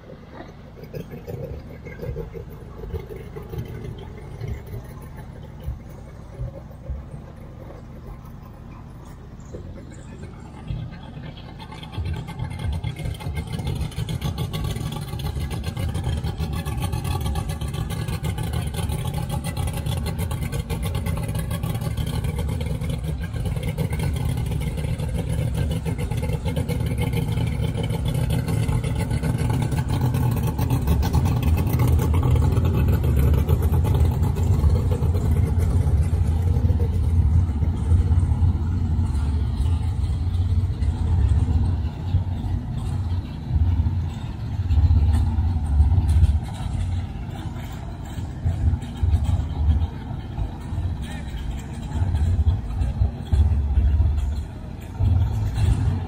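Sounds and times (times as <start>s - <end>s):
outboard motor running: 0.0s - 56.0s
water churning: 0.0s - 56.0s.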